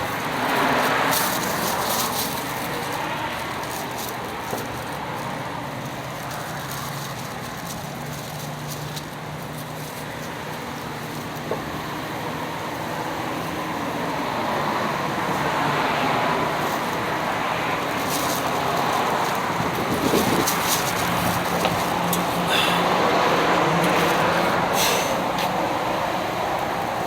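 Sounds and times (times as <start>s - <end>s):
road traffic noise: 0.0s - 27.0s.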